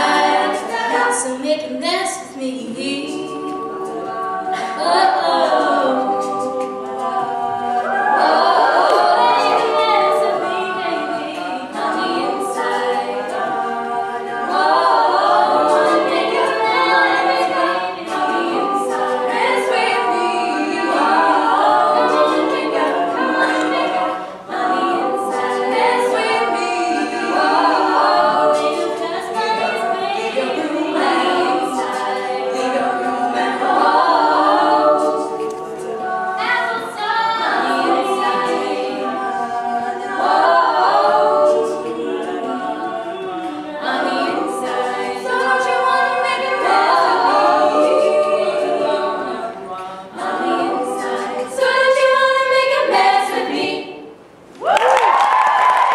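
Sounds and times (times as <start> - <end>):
women singing a cappella harmony: 0.0 - 55.9.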